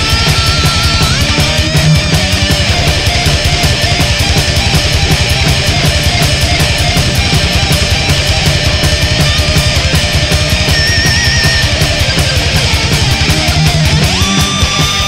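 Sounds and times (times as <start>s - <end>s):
distorted guitars: 0.0s - 15.0s
fast pounding drums: 0.0s - 15.0s.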